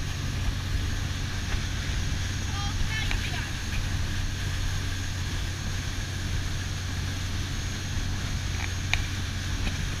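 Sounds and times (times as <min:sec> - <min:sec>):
motor boat engine hum: 0:00.0 - 0:10.0
water rushing along hull: 0:00.0 - 0:10.0.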